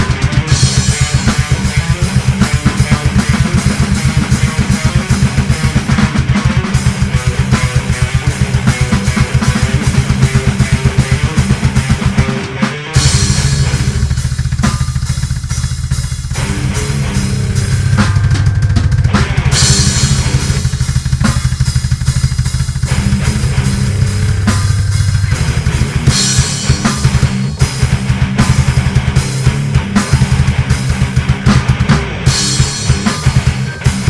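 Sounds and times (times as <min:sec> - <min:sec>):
fast kick drum: 0:00.0 - 0:12.2, 0:13.0 - 0:34.0
death metal music: 0:00.0 - 0:34.0
low bass and guitar notes: 0:00.0 - 0:34.0
snare and cymbals: 0:00.0 - 0:34.0.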